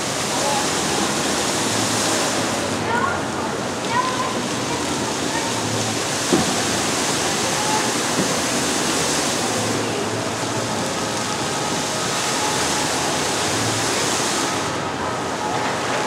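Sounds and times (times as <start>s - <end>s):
fountain splashing into pool: 0.0s - 16.0s.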